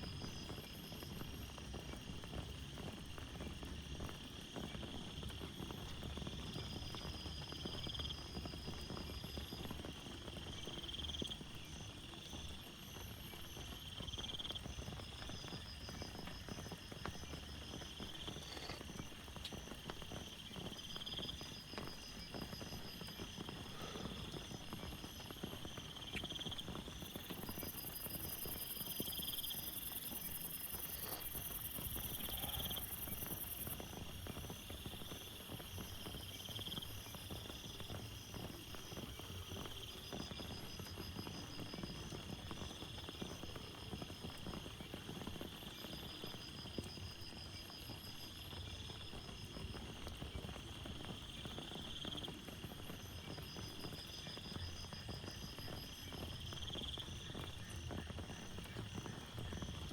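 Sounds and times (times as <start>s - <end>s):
steady rain with dripping: 0.0s - 59.9s.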